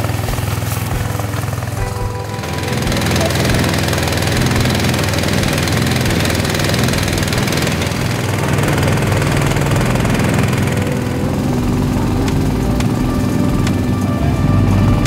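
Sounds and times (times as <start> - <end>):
small pump engine running: 0.0 - 15.0.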